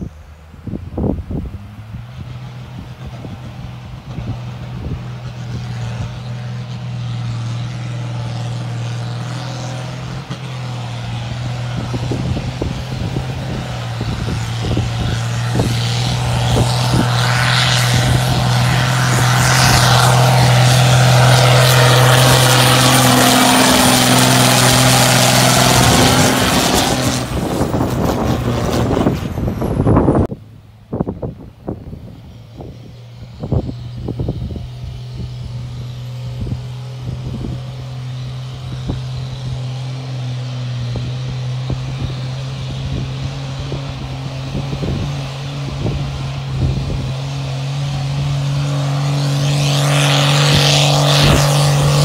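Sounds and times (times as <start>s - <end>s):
tractor diesel engine labouring: 0.0s - 52.0s.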